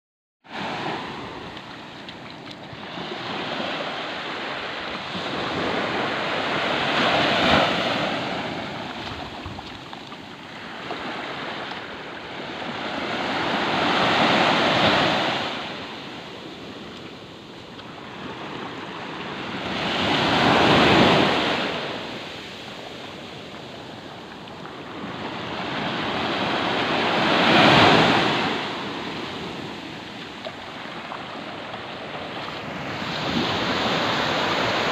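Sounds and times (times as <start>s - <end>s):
ocean waves breaking on sand: 0.5s - 34.9s.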